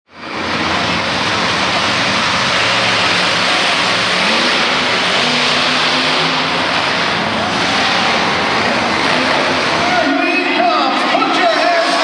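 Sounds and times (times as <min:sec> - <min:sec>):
echoing crowd roar: 0:00.1 - 0:12.0
monster truck engine running: 0:00.1 - 0:12.0.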